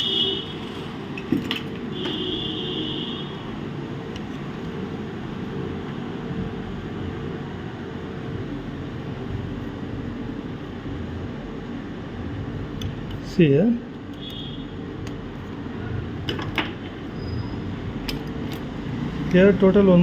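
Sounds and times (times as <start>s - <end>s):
steady low hum: 1.9s - 19.0s.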